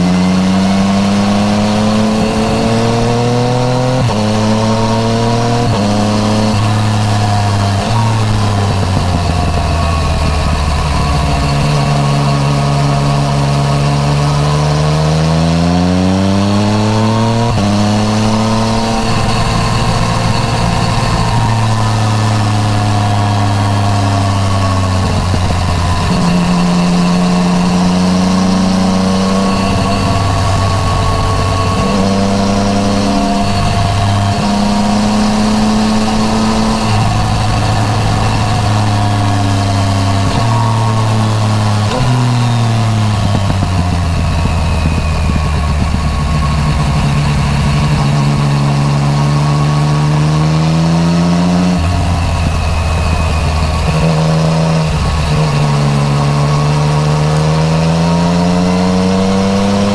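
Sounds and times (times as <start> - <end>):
motorcycle engine changing gears: 0.0 - 59.9.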